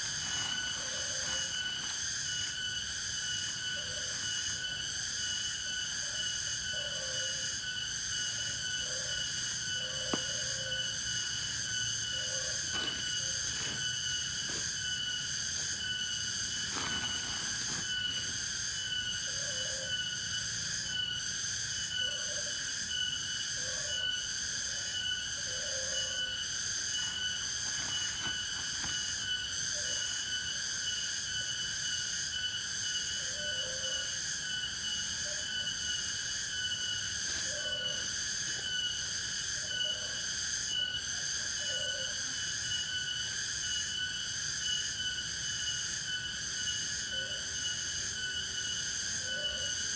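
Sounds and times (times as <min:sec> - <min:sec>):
shrill insect chorus: 0:00.0 - 0:49.9.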